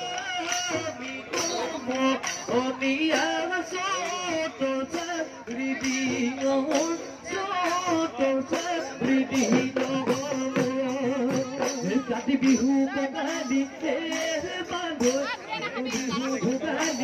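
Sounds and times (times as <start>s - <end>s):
cymbals jingling: 0.0s - 17.0s
drums beating: 0.0s - 17.0s
men singing: 0.0s - 17.0s.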